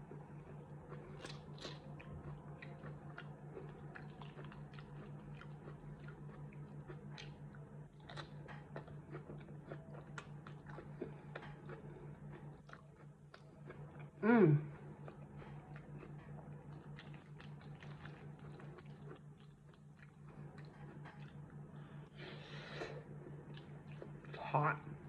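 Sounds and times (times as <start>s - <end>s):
close-miked chewing: 0.0s - 22.1s, 22.7s - 24.8s
steady low hum: 0.0s - 25.0s.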